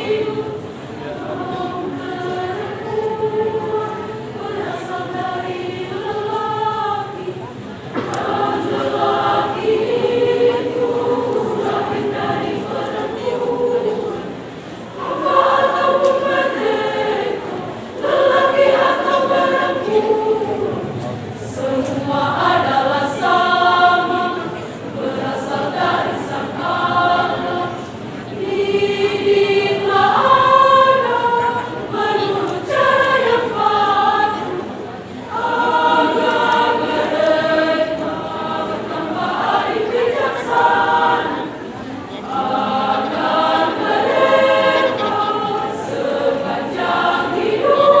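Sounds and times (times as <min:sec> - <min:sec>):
women's choir singing: 0:00.0 - 0:48.0.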